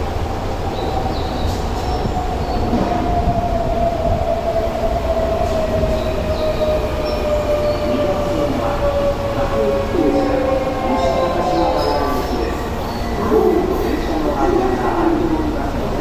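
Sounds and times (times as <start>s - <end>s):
subway train motor whine: 0.0s - 16.0s
train braking: 0.0s - 16.0s
wheels rumbling on rail: 0.0s - 16.0s.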